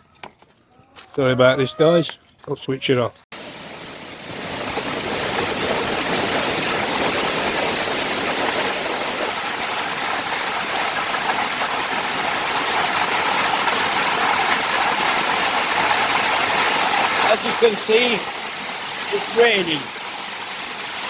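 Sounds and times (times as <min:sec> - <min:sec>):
heavy rain pouring: 0:03.4 - 0:21.0.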